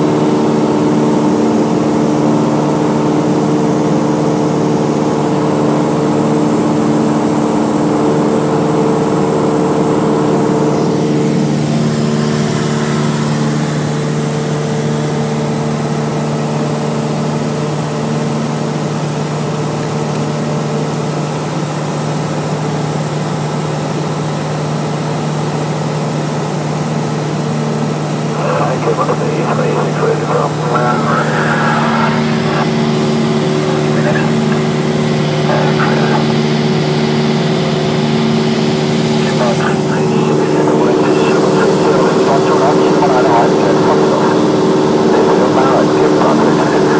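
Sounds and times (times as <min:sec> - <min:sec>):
propeller aircraft engine droning: 0:00.0 - 0:46.9.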